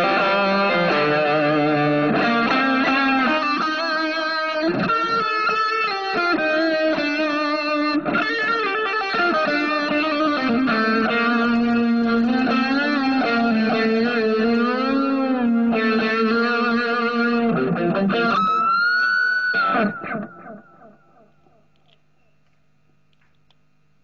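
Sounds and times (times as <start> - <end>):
guitar delay repeats: 0.0 - 21.6
overdriven electric guitar lead: 0.0 - 21.6
faint amp hum: 0.0 - 24.0.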